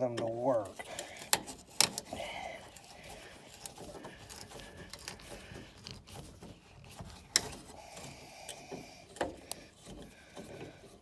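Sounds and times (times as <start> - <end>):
hand tools clicking and scraping: 0.0 - 11.0.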